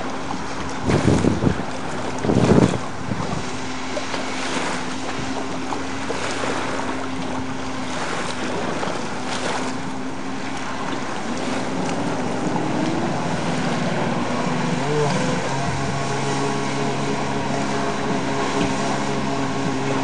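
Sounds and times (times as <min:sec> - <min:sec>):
jet ski engine running hard: 0:00.0 - 0:20.0.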